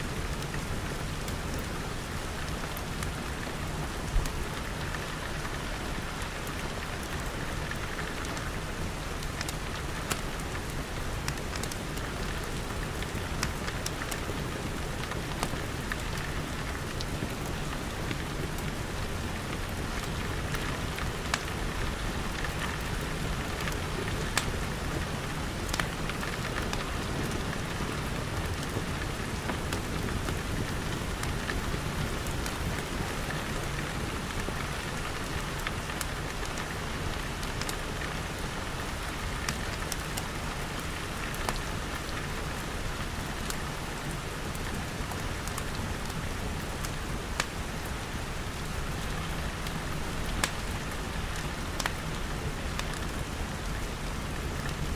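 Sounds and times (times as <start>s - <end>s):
rain on glass roof: 0.0s - 54.9s
wood fire crackling: 0.2s - 54.9s.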